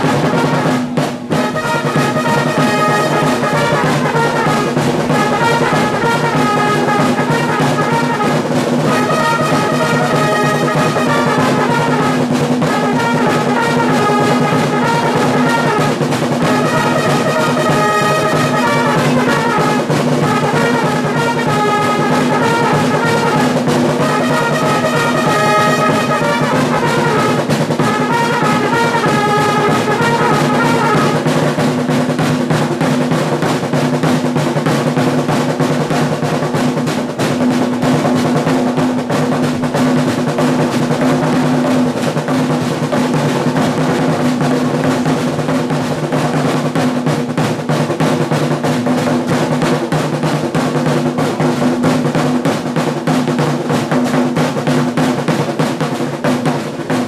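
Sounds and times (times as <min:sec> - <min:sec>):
trumpet fanfare: 0:00.0 - 0:47.6
snare drums drumming: 0:00.0 - 0:57.0.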